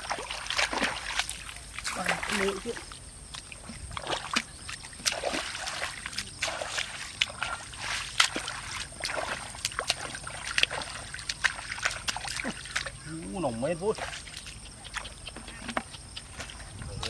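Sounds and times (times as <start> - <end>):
splashing in muddy water: 0.0 - 17.0.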